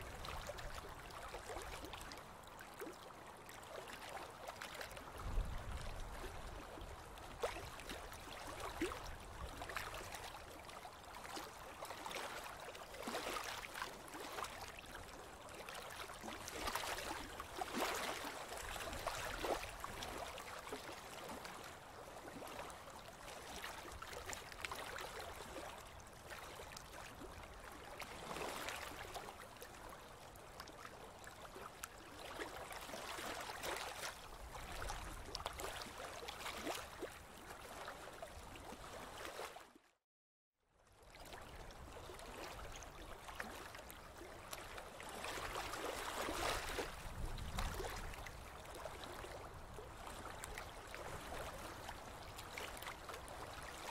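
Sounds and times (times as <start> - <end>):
river water lapping: 0.0 - 39.9, 40.9 - 53.9.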